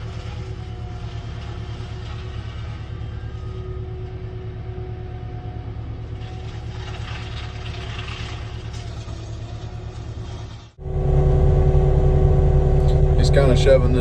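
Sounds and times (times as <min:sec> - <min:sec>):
diesel engine rumbling: 0:00.0 - 0:14.0
hissing grinding mulcher: 0:00.0 - 0:14.0.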